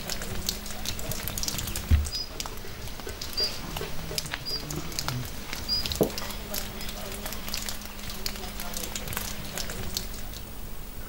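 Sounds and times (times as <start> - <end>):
cooking crackles and pops: 0.0 - 10.8.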